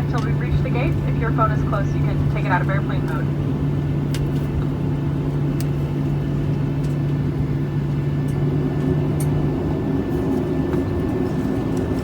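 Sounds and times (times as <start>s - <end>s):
airliner cabin rumble: 0.0s - 12.0s
strong steady hum: 0.0s - 12.0s.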